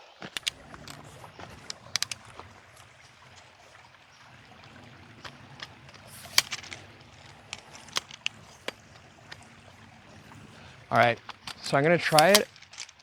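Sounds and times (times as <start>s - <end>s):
stream trickling: 0.0s - 13.0s
sharp clicks and taps: 0.2s - 13.0s.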